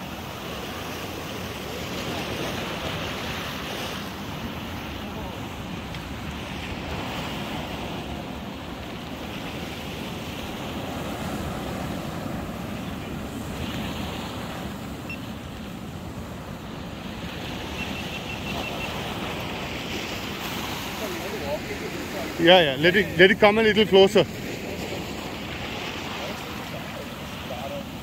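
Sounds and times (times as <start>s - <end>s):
surf breaking on rocks: 0.0s - 28.0s.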